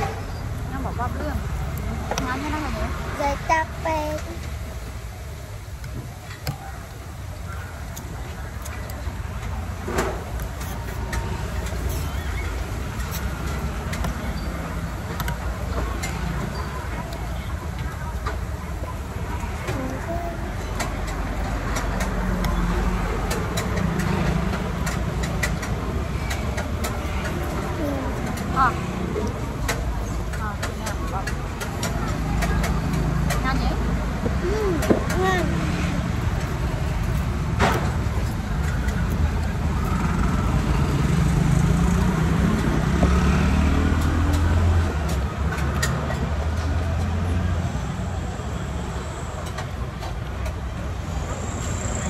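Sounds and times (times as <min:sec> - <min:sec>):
traffic engines humming: 0:00.0 - 0:52.0.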